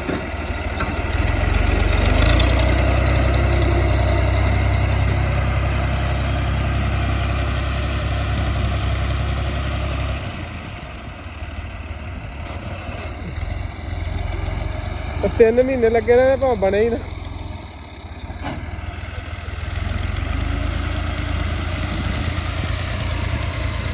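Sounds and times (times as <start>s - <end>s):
tractor engine running under load: 0.0s - 23.9s.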